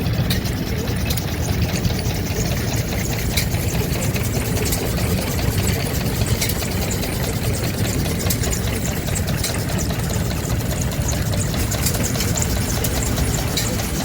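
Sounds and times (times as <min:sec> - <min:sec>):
stationary engine running: 0:00.0 - 0:14.0
sharp ticks: 0:00.2 - 0:14.0.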